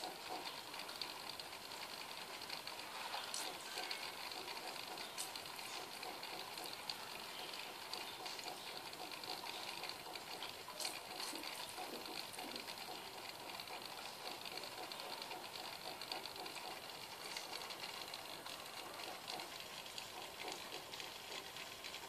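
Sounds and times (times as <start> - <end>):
aquarium filter running: 0.0 - 22.0.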